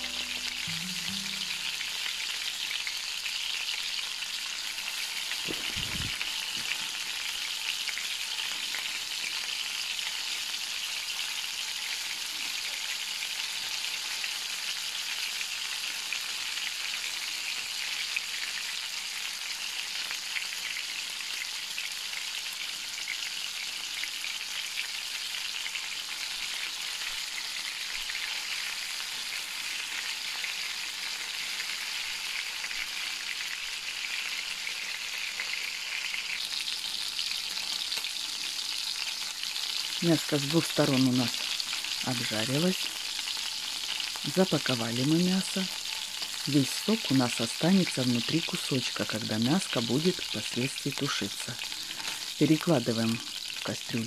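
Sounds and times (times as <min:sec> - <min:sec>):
meat sizzling in a frying pan: 0:00.0 - 0:54.0.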